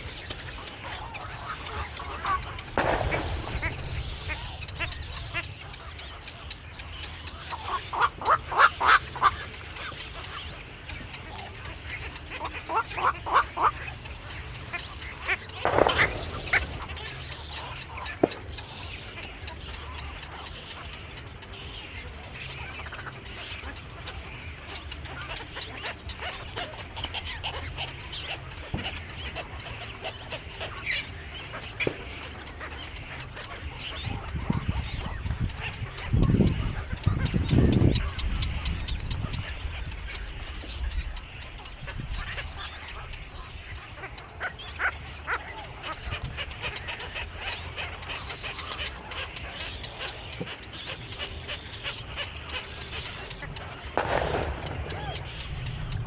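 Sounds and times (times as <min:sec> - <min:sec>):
birds calling and chirping: 0:00.0 - 0:56.0
steady low hum: 0:00.0 - 0:56.0.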